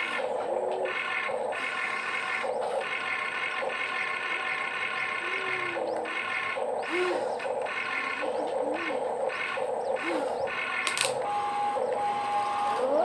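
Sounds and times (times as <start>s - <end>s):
electric motors whining: 0.0s - 13.0s
low motor buzz: 0.0s - 13.0s.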